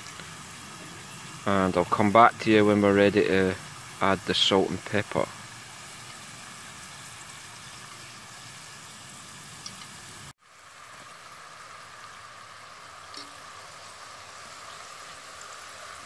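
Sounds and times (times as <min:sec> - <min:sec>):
potatoes deep-frying in oil: 0:00.0 - 0:16.0.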